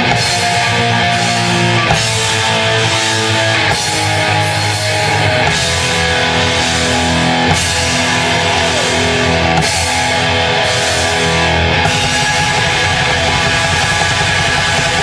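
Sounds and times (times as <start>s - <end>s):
electric guitar chords: 0.0s - 15.0s
live rock band playing: 0.0s - 15.0s.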